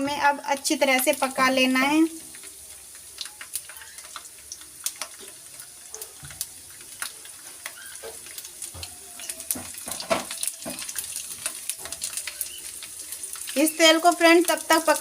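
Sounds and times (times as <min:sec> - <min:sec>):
seeds and garlic sizzling in oil: 0:00.0 - 0:15.0.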